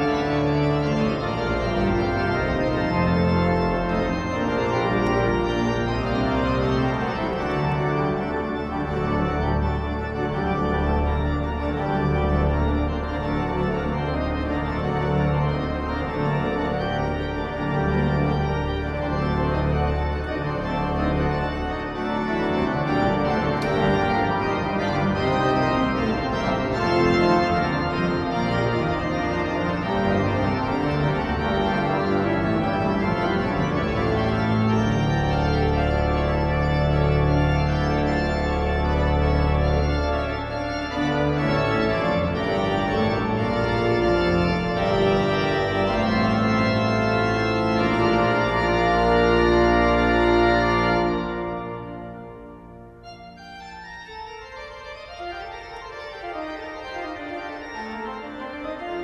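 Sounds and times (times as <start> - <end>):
pipe organ chords: 0.0 - 59.0.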